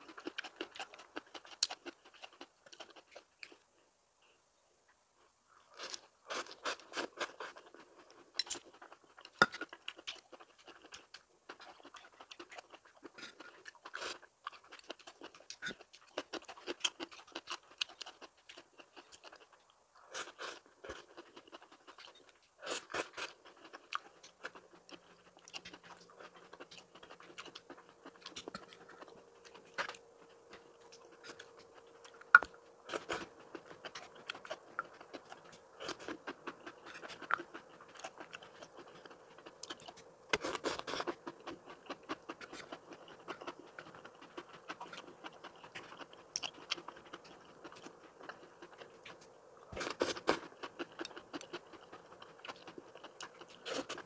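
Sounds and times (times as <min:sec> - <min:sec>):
person chewing crunchy food: 0:00.0 - 0:03.7, 0:05.6 - 0:54.0
faint steady hum: 0:00.0 - 0:54.0.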